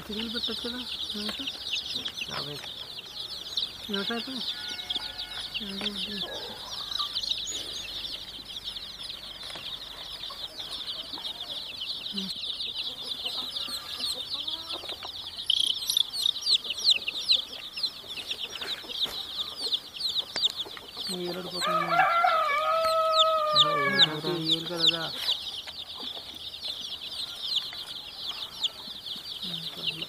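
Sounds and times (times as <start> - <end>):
baby chicks peeping: 0.0 - 30.0.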